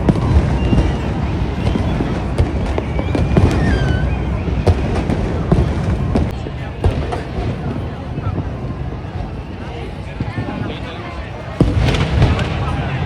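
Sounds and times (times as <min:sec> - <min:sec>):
firework bangs and crackles: 0:00.0 - 0:13.0
firework whistling: 0:00.0 - 0:13.0.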